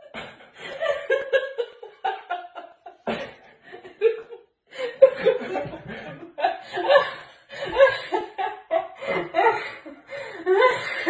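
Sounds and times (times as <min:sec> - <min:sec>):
woman and man laughing: 0:00.0 - 0:11.0.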